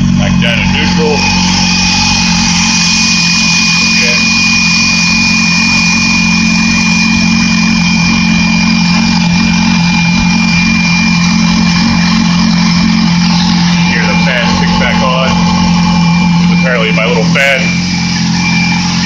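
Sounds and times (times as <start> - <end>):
motorcycle engine idling: 0.0 - 19.0
thin high whine: 0.0 - 19.0.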